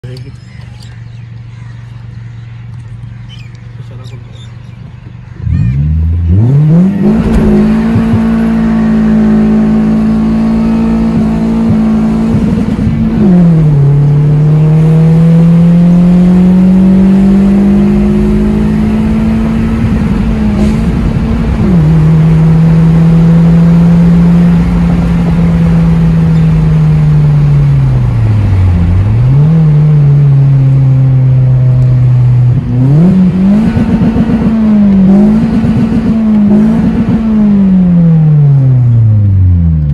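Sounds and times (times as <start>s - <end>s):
car engine revving through gears: 5.4s - 39.9s.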